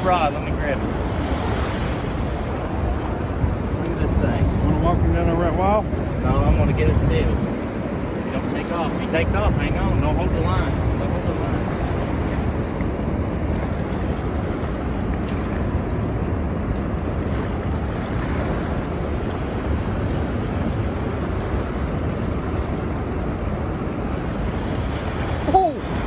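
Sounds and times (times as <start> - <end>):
turbulent water rushing: 0.0 - 26.0
wind buffeting microphone: 0.0 - 26.0.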